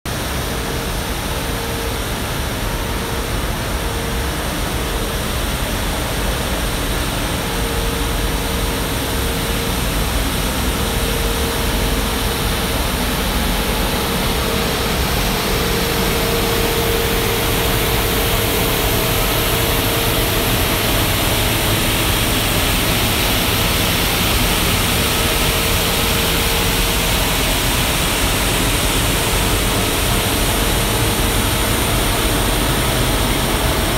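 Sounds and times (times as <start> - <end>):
road sweeper engine and suction: 2.9 - 33.9.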